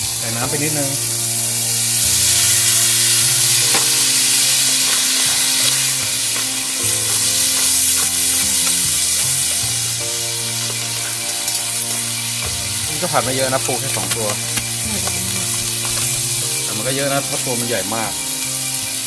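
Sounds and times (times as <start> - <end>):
crab sizzling in a hot pan: 0.0 - 19.0.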